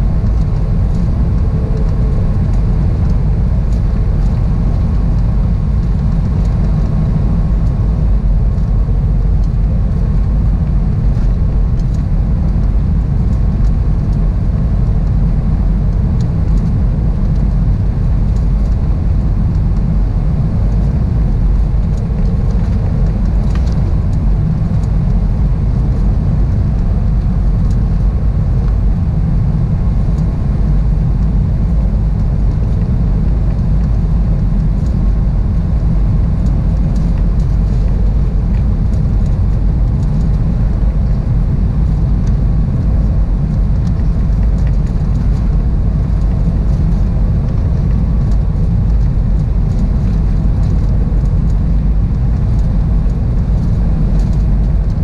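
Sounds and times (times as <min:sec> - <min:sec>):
airplane cabin roar: 0:00.0 - 0:55.0.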